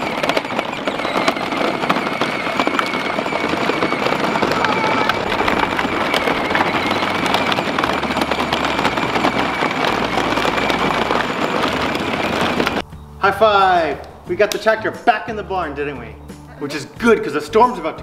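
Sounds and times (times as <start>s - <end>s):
tractor engine clattering: 0.0s - 18.0s.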